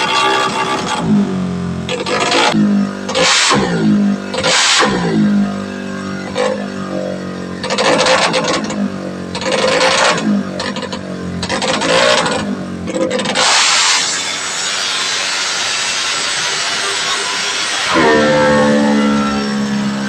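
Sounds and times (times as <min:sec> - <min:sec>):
scooter engine revving: 0:00.0 - 0:20.0.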